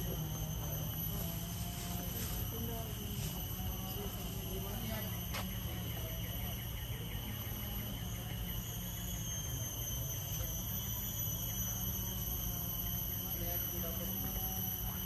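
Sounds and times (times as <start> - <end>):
insect chirps: 0.0 - 15.0
insects whining: 0.0 - 15.0.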